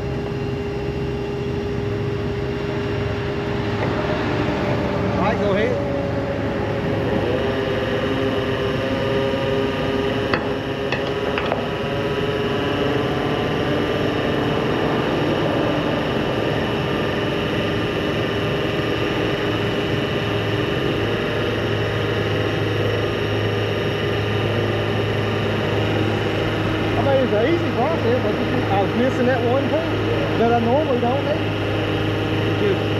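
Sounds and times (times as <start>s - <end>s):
deeper hum: 0.0s - 32.9s
truck engine running: 0.0s - 32.9s.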